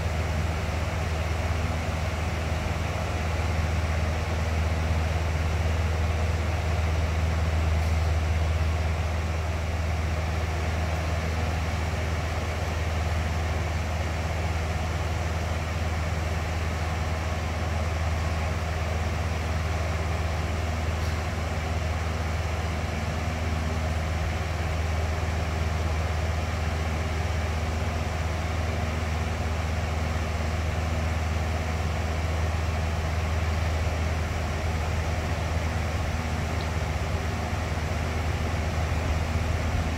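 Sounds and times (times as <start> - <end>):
box fan running: 0.0 - 39.9.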